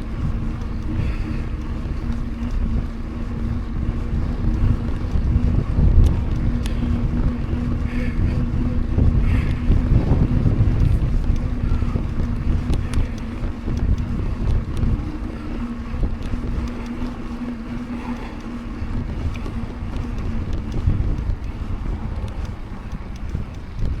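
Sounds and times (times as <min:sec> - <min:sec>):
light ticks: 0:00.0 - 0:24.0
low rumble: 0:00.0 - 0:24.0
tyres rolling hum: 0:00.0 - 0:24.0
wind buffeting microphone: 0:00.0 - 0:24.0.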